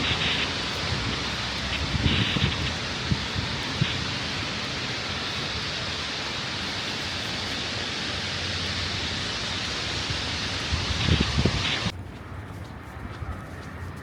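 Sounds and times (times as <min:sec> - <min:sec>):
rushing hiss of outdoor noise: 0:00.0 - 0:12.0.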